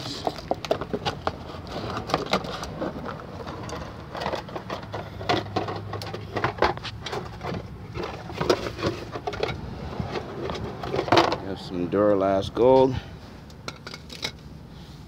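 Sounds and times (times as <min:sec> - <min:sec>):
tools clicking and knocking: 0:00.0 - 0:11.4, 0:13.4 - 0:14.4.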